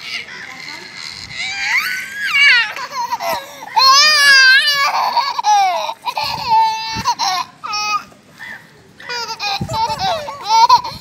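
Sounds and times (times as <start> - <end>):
child squealing and whining: 0.0 - 8.0, 9.2 - 11.0.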